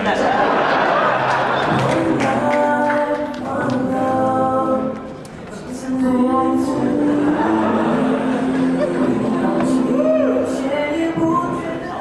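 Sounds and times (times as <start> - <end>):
slow singing with held notes: 1.7 - 12.0.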